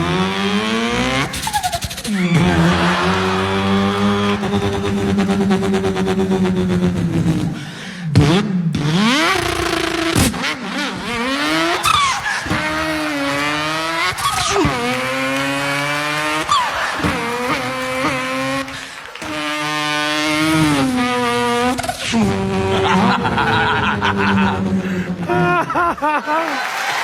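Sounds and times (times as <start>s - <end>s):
man imitating racing car: 0.0s - 26.0s.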